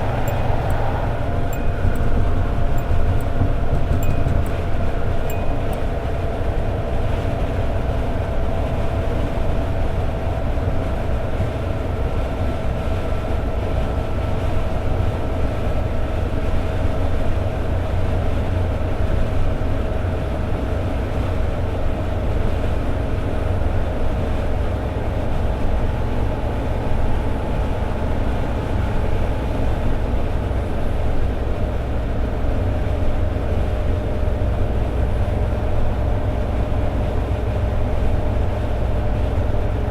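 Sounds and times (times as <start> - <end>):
car engine drone at cruise: 0.0 - 39.9
road noise: 0.0 - 39.9.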